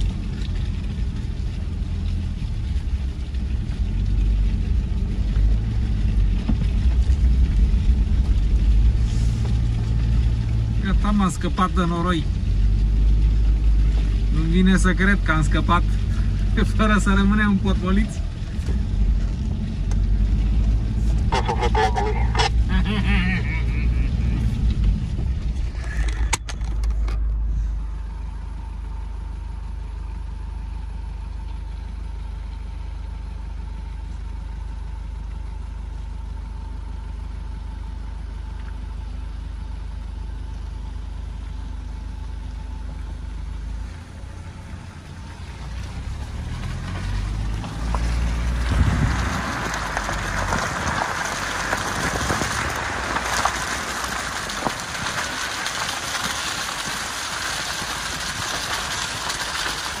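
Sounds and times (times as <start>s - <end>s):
car engine running: 0.0s - 60.0s.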